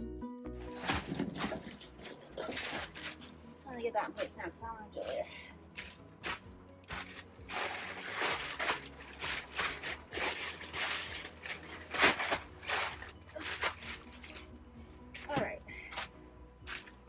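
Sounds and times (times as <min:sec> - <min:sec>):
rustling and scraping of parts: 0:00.6 - 0:17.0.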